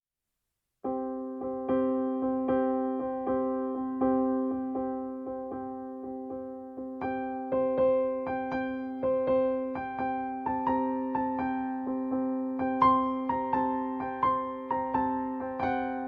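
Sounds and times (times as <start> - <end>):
electric piano melody: 0.8 - 16.0.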